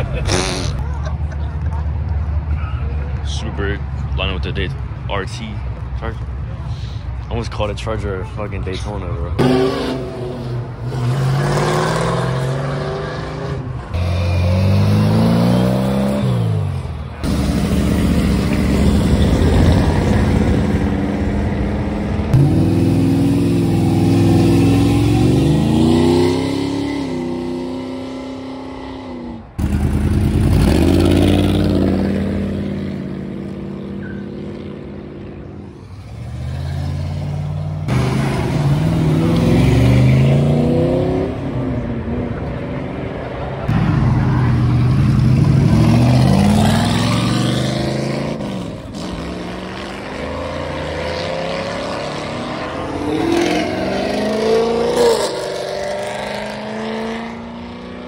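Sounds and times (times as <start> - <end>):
car engines accelerating: 8.4 - 58.0.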